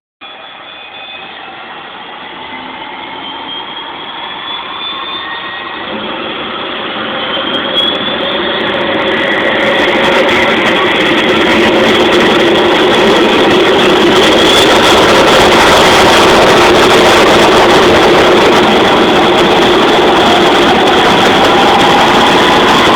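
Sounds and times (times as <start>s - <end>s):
helicopter turbine whine: 0.2s - 22.9s.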